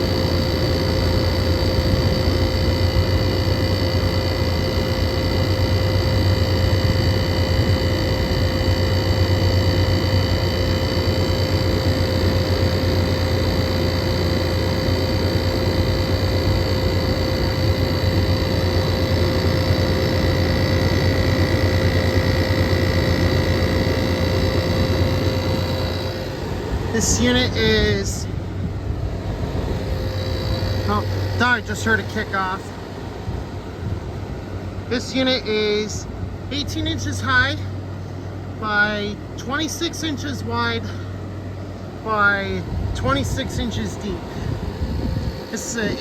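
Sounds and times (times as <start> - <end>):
high whining tones: 0.0 - 37.7, 42.0 - 46.0
air conditioner unit humming: 0.0 - 46.0
fan rushing: 0.0 - 46.0.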